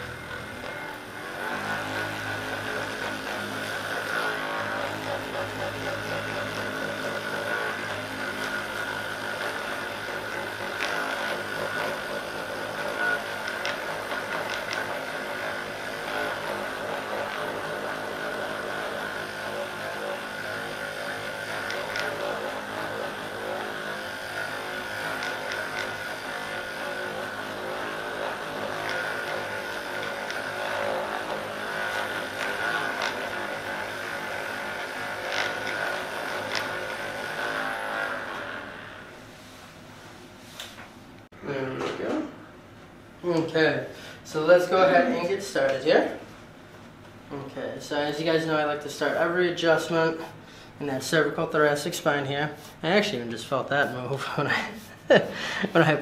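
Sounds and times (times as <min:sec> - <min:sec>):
massage gun running: 0:00.0 - 0:41.3, 0:43.3 - 0:56.0.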